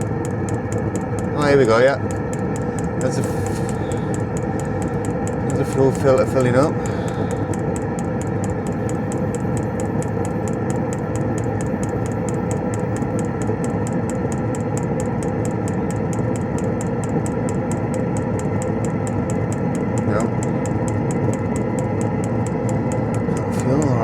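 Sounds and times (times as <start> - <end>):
diesel heater humming: 0.0 - 24.0
fuel pump ticking: 0.0 - 24.0.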